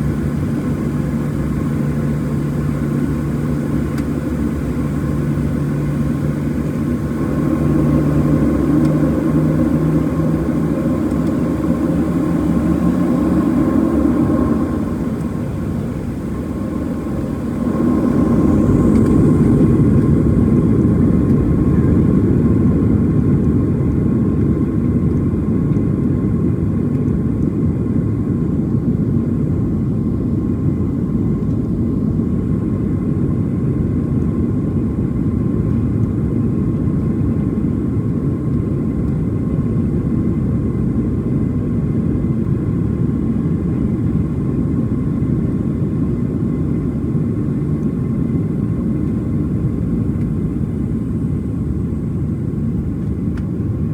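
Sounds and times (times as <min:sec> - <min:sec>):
jet engine rumble in cabin: 0:00.0 - 0:53.9.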